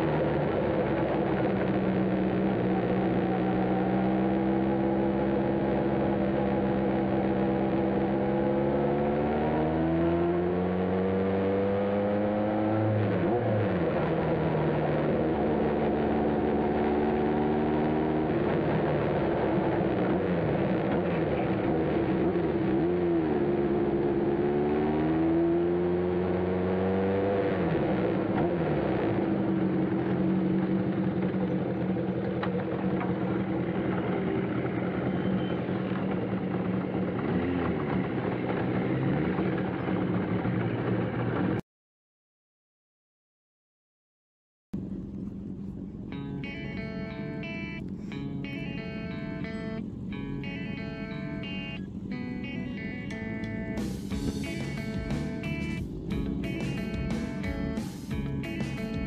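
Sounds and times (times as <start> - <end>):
motorcycle engine revving and idling: 0.0 - 41.6, 44.8 - 59.0.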